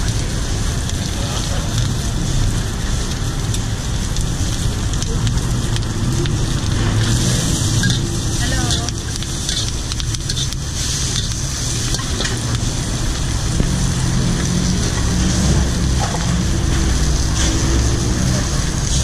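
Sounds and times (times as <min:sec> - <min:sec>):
gas burner rumbling: 0:00.0 - 0:19.0
vegetables sizzling: 0:00.0 - 0:19.0.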